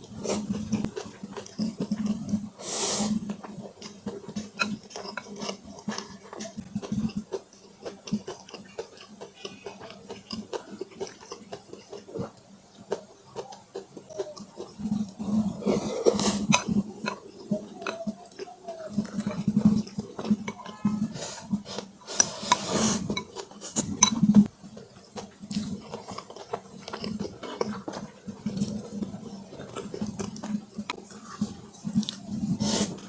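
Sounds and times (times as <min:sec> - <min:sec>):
person chewing: 0:00.0 - 0:33.0.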